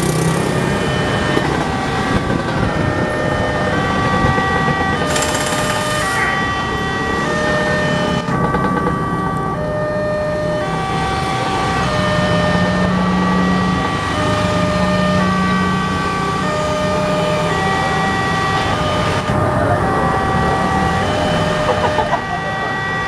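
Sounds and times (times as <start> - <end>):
level-crossing alarm tones: 0.0 - 23.0.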